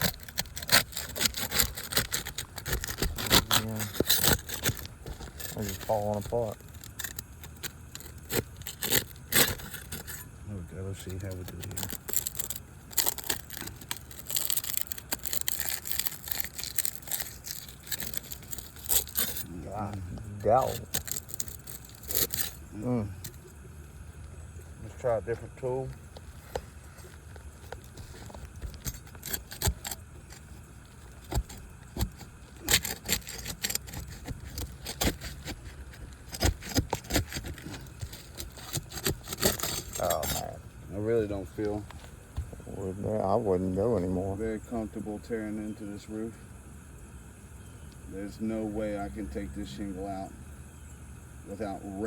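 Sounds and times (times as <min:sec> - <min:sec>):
shingles scraping and tearing: 0:00.0 - 0:24.0, 0:24.7 - 0:45.8.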